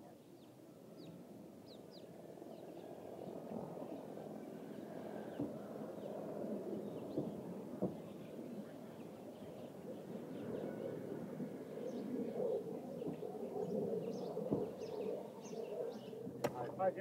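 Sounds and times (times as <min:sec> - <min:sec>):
small birds chirping: 0:00.0 - 0:16.8.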